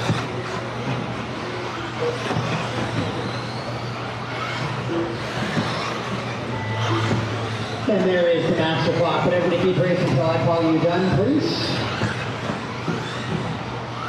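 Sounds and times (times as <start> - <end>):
rc car motor whine: 0.0 - 14.0.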